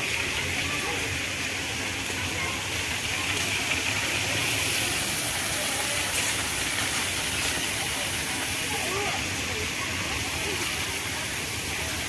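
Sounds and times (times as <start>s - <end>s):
fountains splashing into pool: 0.0s - 12.0s.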